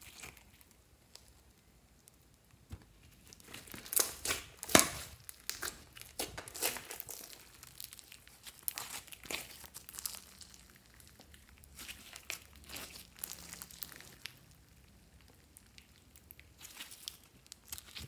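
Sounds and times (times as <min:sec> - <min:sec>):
slime crackling and popping: 0:00.0 - 0:18.0.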